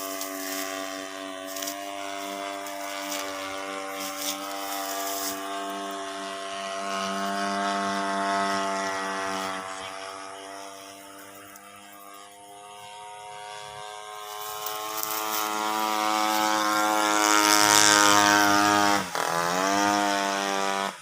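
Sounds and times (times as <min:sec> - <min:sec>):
small aircraft engine running: 0:00.0 - 0:21.0.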